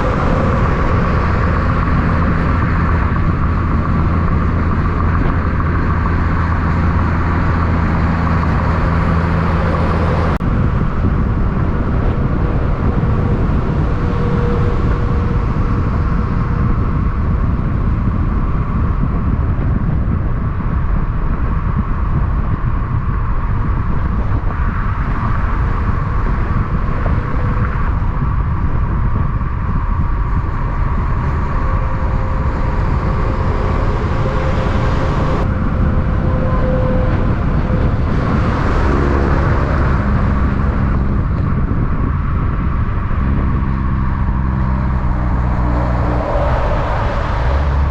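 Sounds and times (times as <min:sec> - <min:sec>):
low droning tone: 0:00.0 - 0:47.9
road vehicle rumble: 0:00.0 - 0:47.9.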